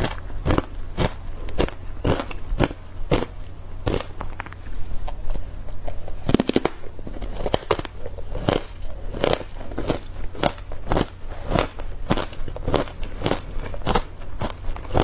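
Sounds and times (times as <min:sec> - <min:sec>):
teeth crunching ice: 0:00.0 - 0:15.0.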